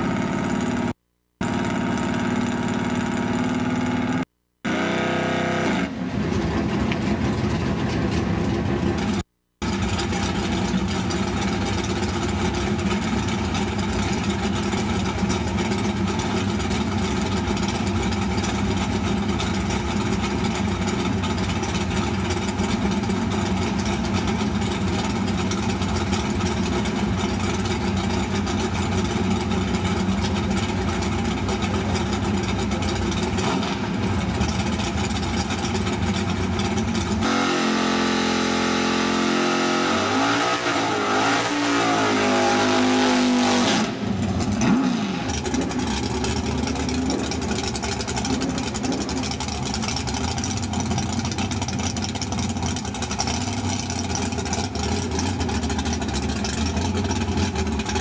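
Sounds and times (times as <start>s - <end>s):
engine idling and revving: 0.0s - 58.0s.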